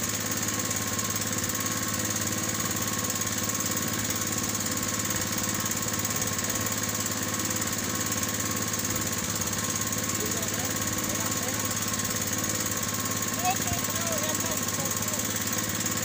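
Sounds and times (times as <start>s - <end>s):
small boat engine droning: 0.0s - 16.0s.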